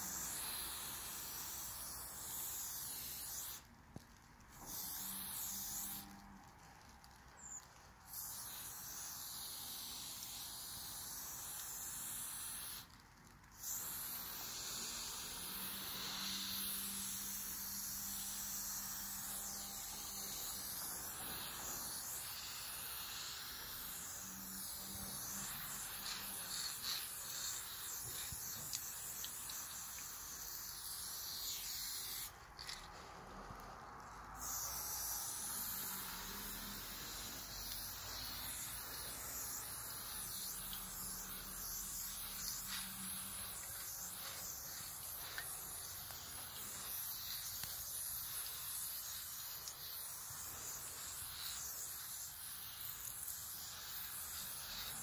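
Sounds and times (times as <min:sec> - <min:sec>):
spray paint can hissing: 0:00.0 - 0:55.0.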